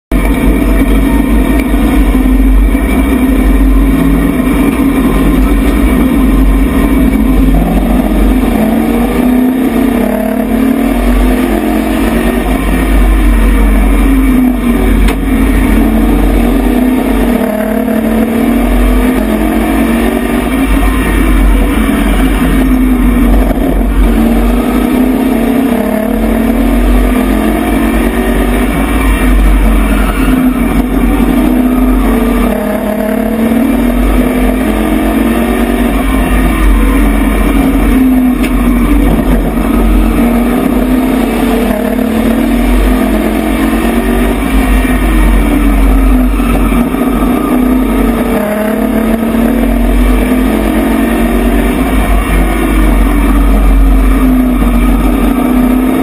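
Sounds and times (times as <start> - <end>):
race truck engine accelerating: 0.0 - 56.0.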